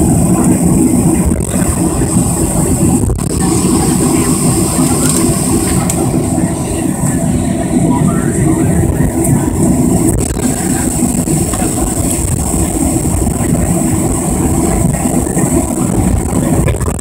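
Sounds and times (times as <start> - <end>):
airplane cabin rumble: 0.0 - 17.0
jet engine whine: 0.0 - 17.0.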